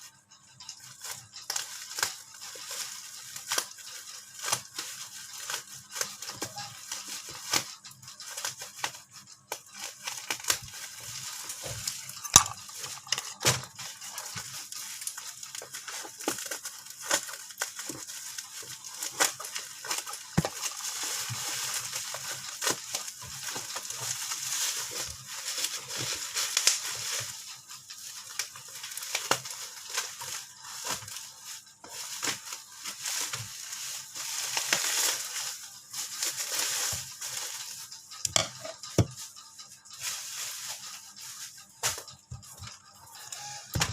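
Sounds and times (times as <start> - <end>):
packaging crinkling: 0.8 - 43.9.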